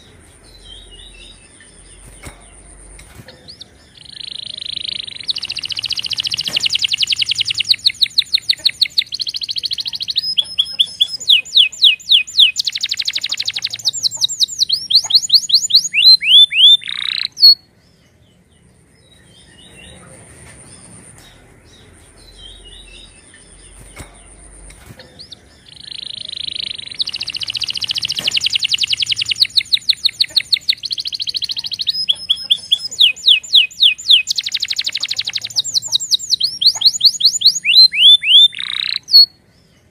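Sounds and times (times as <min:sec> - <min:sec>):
faint bird chirps: 0:00.0 - 0:18.2, 0:19.1 - 0:39.9
canary singing trills: 0:00.0 - 0:39.9.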